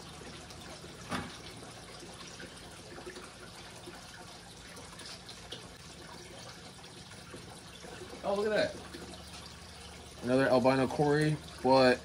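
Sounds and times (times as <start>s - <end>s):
water drips and splashes: 0.0s - 12.0s
water trickling in a pond: 0.0s - 12.0s.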